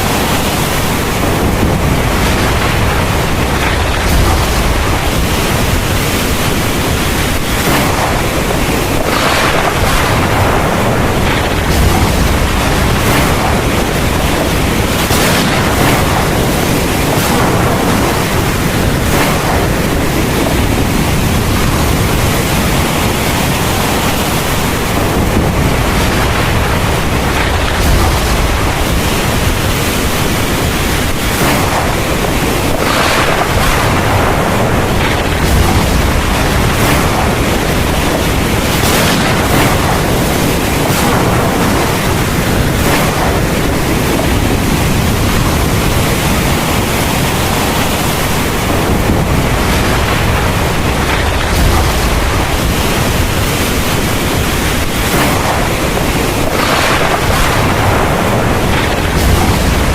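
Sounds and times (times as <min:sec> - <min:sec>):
heavy rain pouring: 0:00.0 - 0:59.9
deep low rumble: 0:01.2 - 0:22.8, 0:24.9 - 0:46.3, 0:48.6 - 0:54.4, 0:57.2 - 0:59.9.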